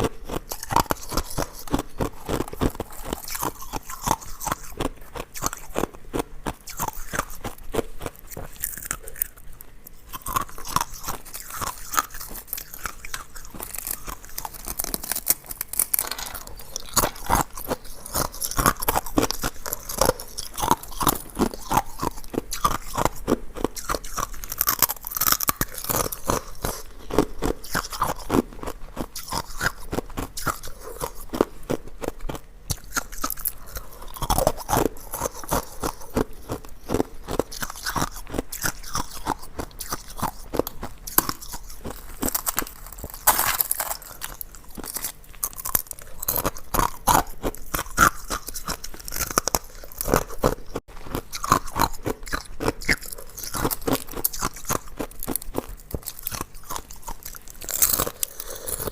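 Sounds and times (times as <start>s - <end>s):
chewing ice cubes crunching: 0.0s - 58.9s.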